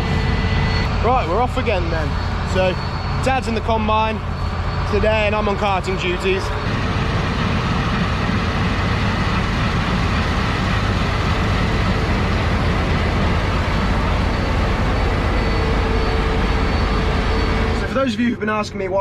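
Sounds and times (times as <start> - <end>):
diesel engine droning: 0.0 - 19.0
faint steady whine: 0.0 - 19.0.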